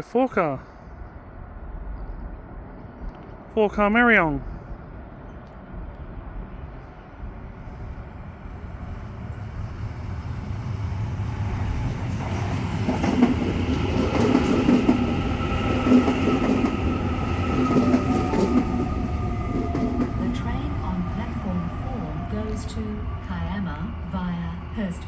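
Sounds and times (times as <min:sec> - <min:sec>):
electric train wheels rumbling: 0:04.8 - 0:25.0.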